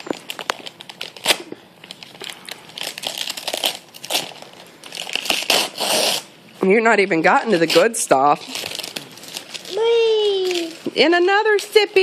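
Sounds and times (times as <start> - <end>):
wrapping paper crinkling: 0.0 - 6.3, 7.6 - 12.0.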